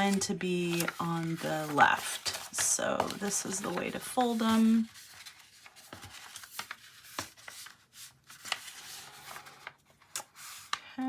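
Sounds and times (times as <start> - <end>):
paper folding and rustling: 0.0 - 11.0.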